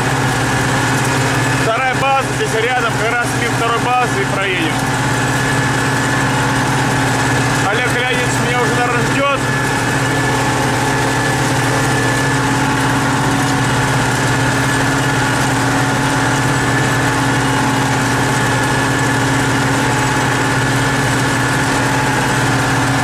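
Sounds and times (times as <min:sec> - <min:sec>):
tractor diesel engine drone: 0:00.0 - 0:23.0.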